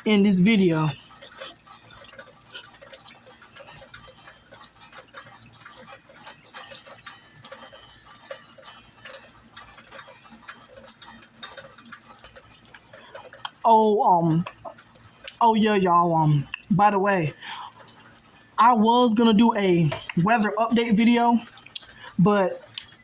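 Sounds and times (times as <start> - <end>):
rain dripping: 0.0 - 23.0.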